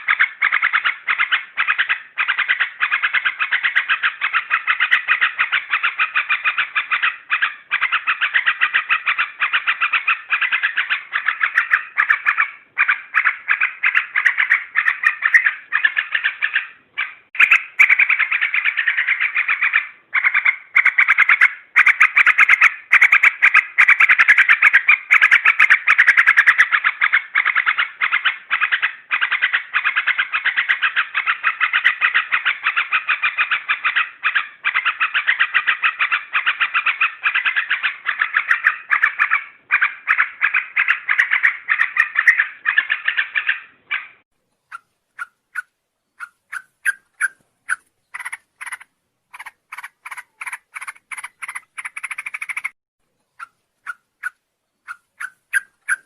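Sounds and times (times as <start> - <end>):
bulbul chattering song: 0.0 - 56.0.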